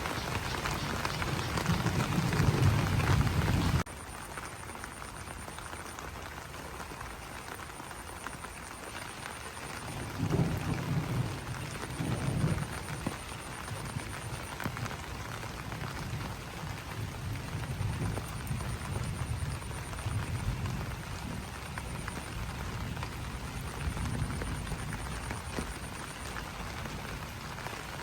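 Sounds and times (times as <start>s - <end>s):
rain falling on leaves: 0.0s - 28.0s.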